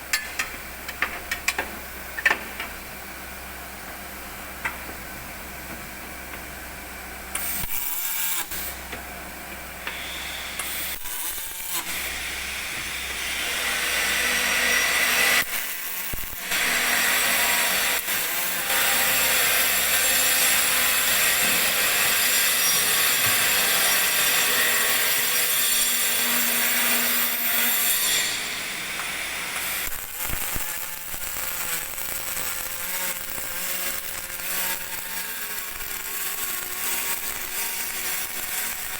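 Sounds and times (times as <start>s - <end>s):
welding arc hissing crackle: 0.0s - 38.9s.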